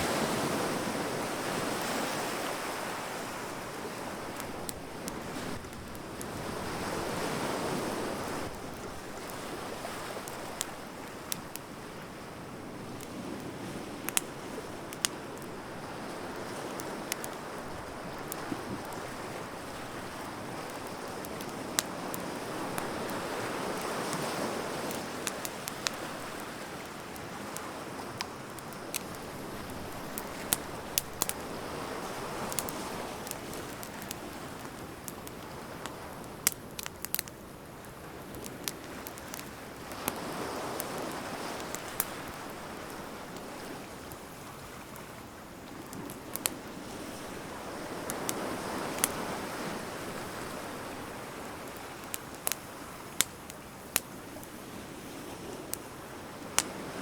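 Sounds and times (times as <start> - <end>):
bonfire crackling and popping: 0.0 - 57.0.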